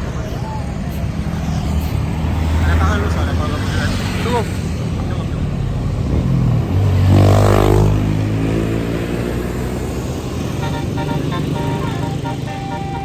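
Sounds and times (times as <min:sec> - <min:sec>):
bus engine revving: 0:00.0 - 0:13.0.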